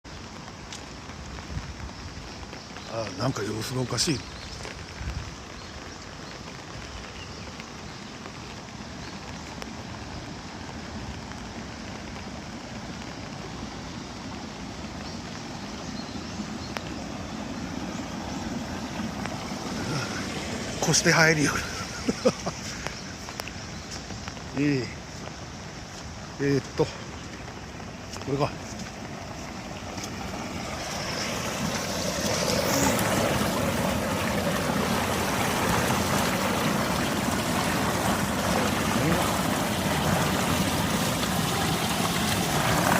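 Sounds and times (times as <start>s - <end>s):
rushing water in a channel: 0.0s - 42.9s
steady rain falling: 0.0s - 42.9s.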